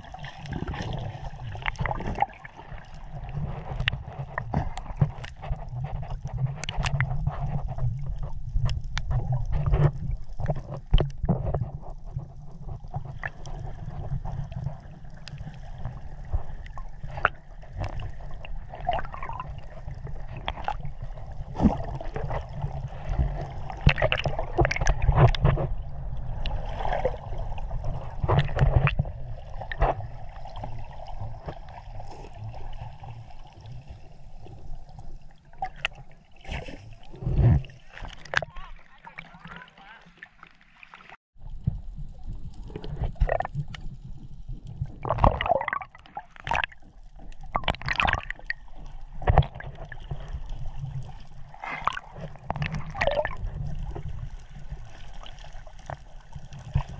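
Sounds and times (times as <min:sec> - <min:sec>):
water sloshing and splashing: 0:00.0 - 0:56.9.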